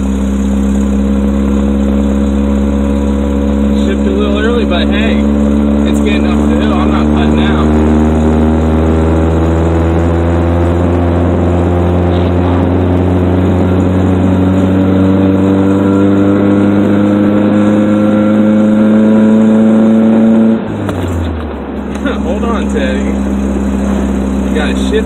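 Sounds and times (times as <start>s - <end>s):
pickup truck engine revving: 0.0s - 25.0s.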